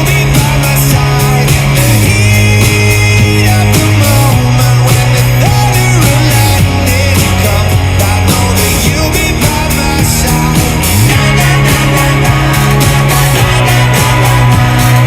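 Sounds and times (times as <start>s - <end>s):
drum hits: 0.0s - 15.0s
guitar: 0.0s - 15.0s
held bass note: 0.0s - 15.0s
rock band playing: 0.0s - 15.0s.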